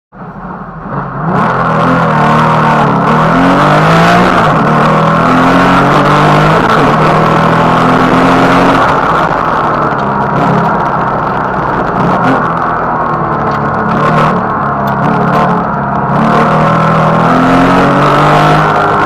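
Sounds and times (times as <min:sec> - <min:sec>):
road and wind noise: 0:00.1 - 0:19.0
car engine revving: 0:00.2 - 0:19.0.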